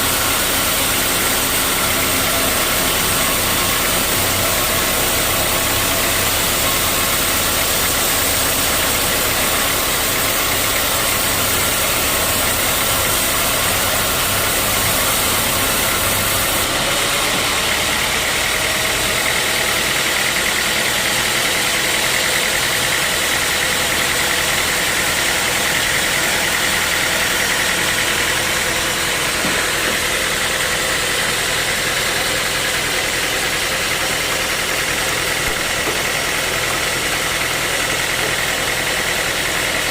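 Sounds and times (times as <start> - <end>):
sawmill saw machinery humming: 0.0 - 39.9.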